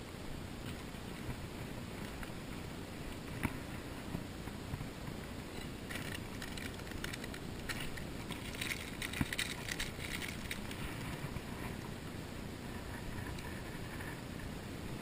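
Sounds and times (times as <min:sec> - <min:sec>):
steady low rush: 0:00.0 - 0:15.0
small crackles and clicks: 0:00.6 - 0:11.9, 0:12.7 - 0:14.6.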